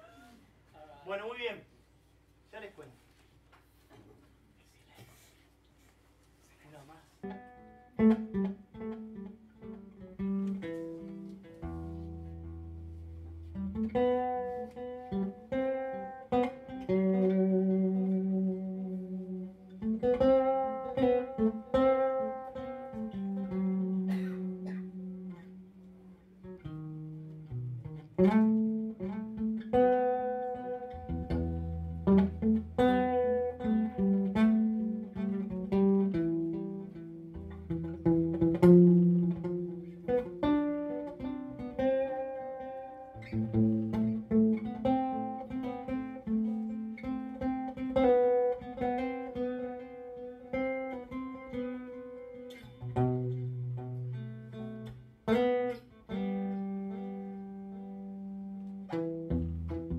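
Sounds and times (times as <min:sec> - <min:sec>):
instrumental guitar music: 0:07.2 - 0:59.9.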